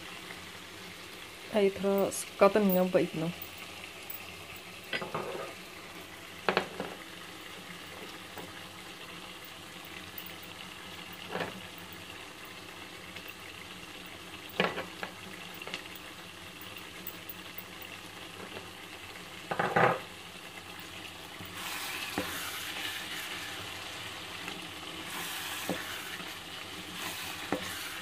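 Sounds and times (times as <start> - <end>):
curry sizzling in a pot: 0.0 - 28.0.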